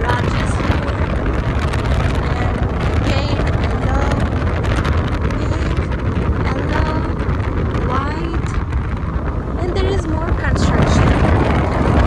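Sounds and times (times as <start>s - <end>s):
car road rumble: 0.0s - 12.0s
wind noise: 0.0s - 12.0s.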